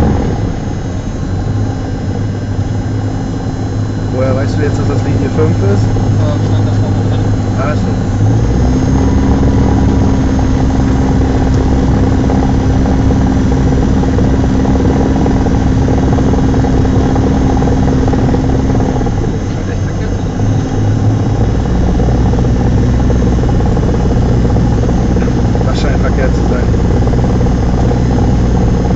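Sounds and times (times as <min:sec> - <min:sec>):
propeller plane engine drone: 0:00.0 - 0:28.9.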